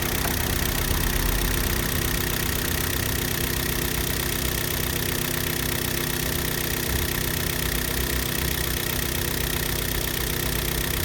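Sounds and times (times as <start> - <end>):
petrol engine idling: 0.0 - 11.0.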